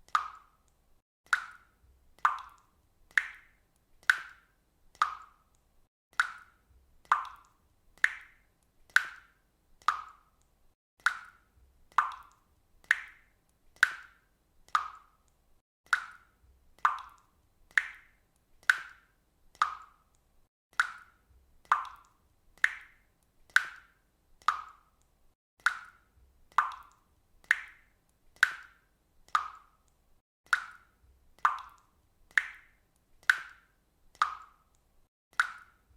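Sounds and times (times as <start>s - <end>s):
water dripping: 0.0s - 35.9s.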